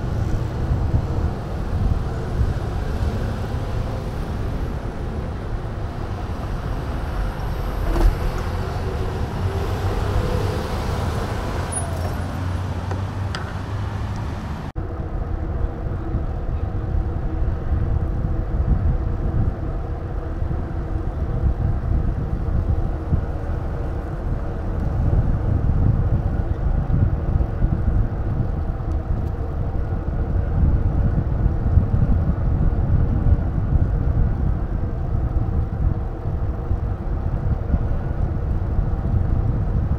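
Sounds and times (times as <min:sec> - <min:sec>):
road traffic: 0:00.0 - 0:39.9
wind rumbling on microphone: 0:00.0 - 0:39.9.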